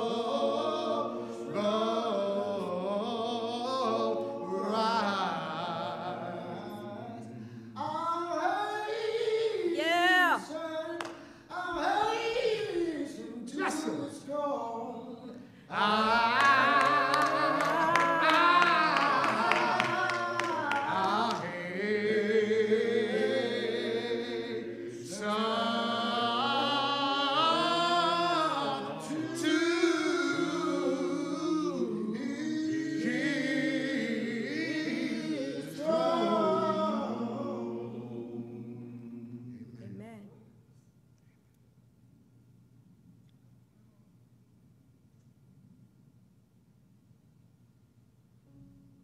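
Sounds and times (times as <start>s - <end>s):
voices singing a cappella: 0.0s - 40.4s.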